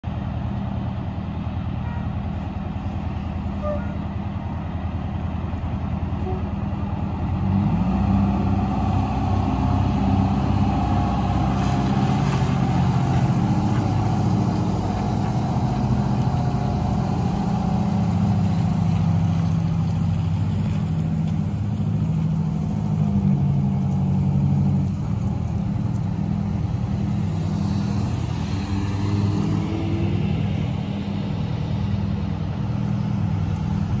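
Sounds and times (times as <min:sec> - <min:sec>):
fire truck diesel engine driving away: 0:00.0 - 0:34.0.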